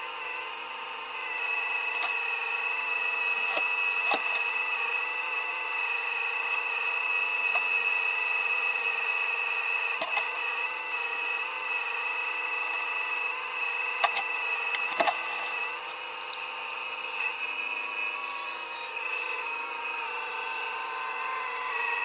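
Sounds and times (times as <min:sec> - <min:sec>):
digging machine whining: 0:00.0 - 0:22.0.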